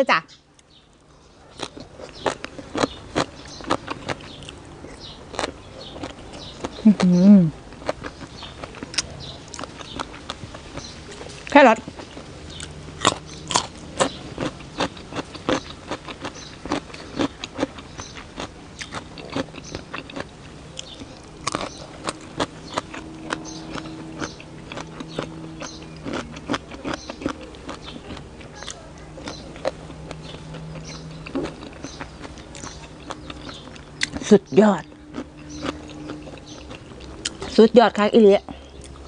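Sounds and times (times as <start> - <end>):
faint low hum: 0.0 - 39.0
chewing raw carrot crunches: 1.4 - 37.6.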